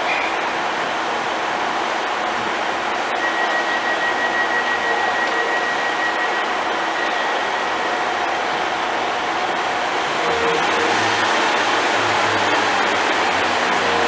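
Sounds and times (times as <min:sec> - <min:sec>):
high steady whine: 0:00.0 - 0:14.0
train engines idling: 0:00.0 - 0:14.0.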